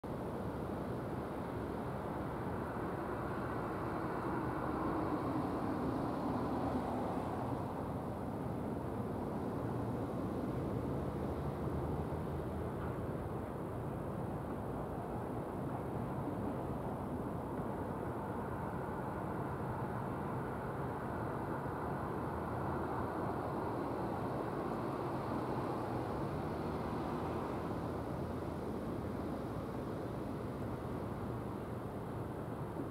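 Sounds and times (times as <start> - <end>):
outdoor background rumble: 0.0 - 32.9.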